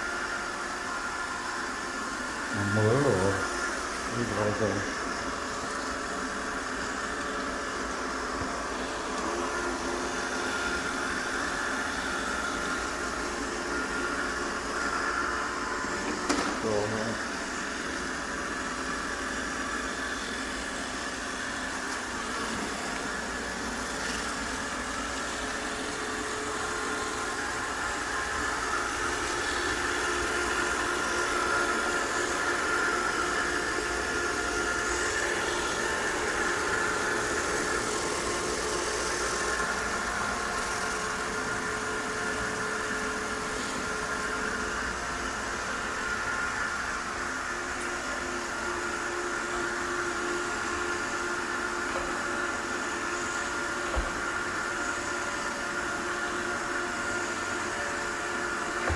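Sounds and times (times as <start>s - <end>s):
robot vacuum cleaner running: 0.0s - 58.9s.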